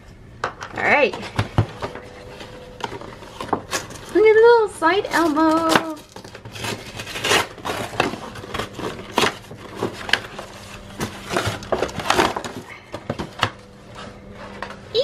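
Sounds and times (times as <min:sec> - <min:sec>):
cardboard packaging rustling: 0:01.2 - 0:14.8.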